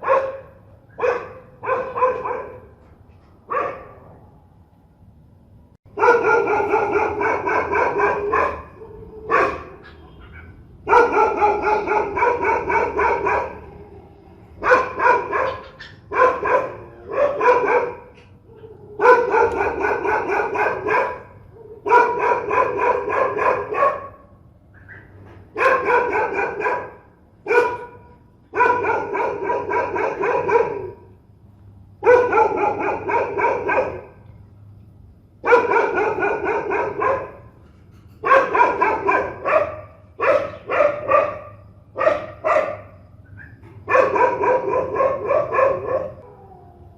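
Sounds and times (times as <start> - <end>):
dog barking fiercely: 0.0 - 2.8, 3.4 - 4.2, 5.9 - 31.2, 32.0 - 34.2, 35.3 - 37.6, 38.2 - 46.3.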